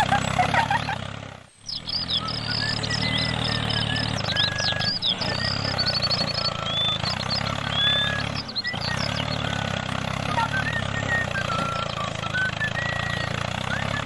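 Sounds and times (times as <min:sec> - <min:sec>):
birds chirping: 0:00.0 - 0:14.0
small tractor engine: 0:00.0 - 0:14.0.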